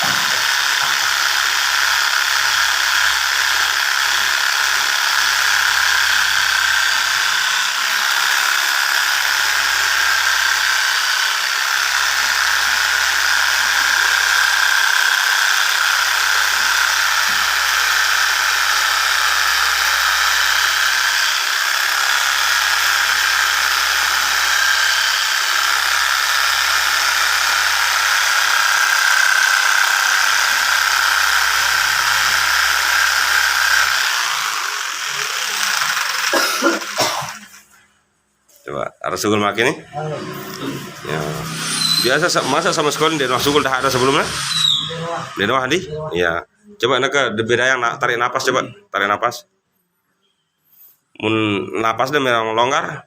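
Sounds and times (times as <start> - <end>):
small motor whirring: 0.0 - 37.7, 40.0 - 46.0.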